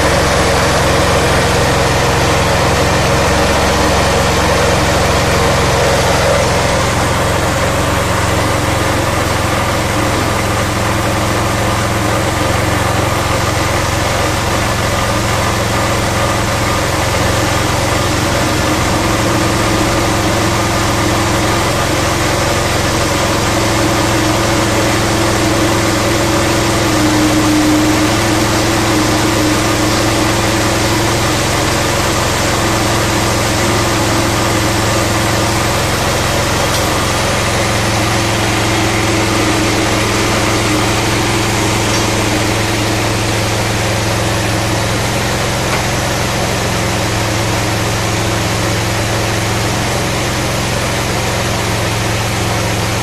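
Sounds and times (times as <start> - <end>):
small engine running steadily: 0.0 - 53.0.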